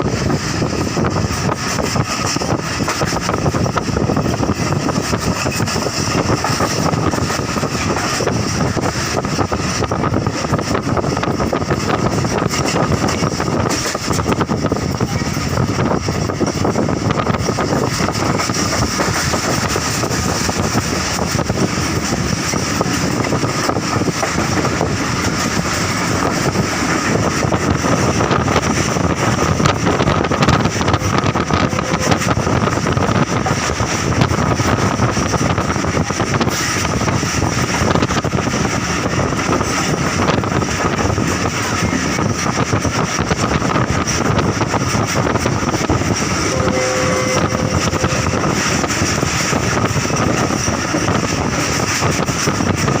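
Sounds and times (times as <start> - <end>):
train carriage rumbling on track: 0.0 - 53.0.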